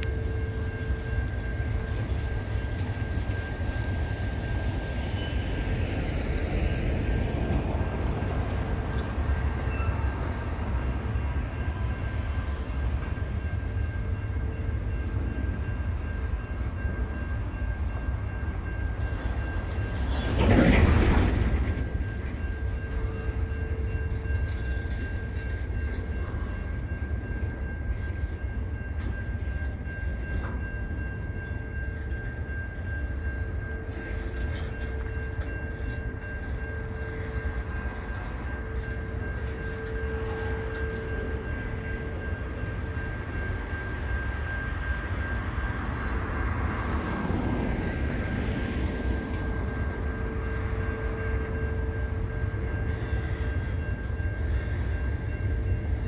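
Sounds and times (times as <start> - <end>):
train wagons rumbling past: 0.0 - 56.0.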